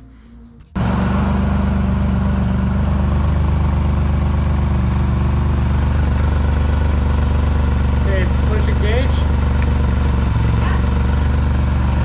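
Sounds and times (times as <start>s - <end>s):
small truck engine idling: 0.8s - 12.0s.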